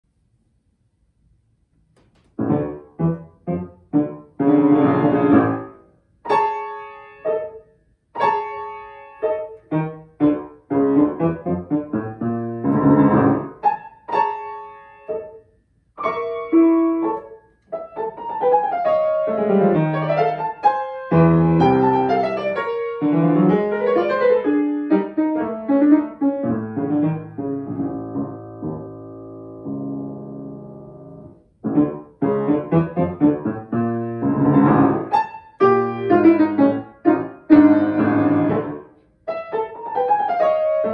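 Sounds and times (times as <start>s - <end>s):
solo grand piano playing: 2.2s - 40.9s.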